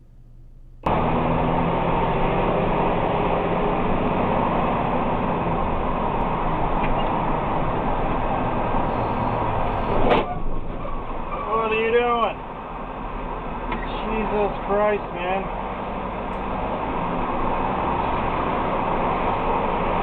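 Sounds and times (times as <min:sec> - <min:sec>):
vehicle engine: 0:00.0 - 0:20.0
road noise: 0:00.8 - 0:20.0.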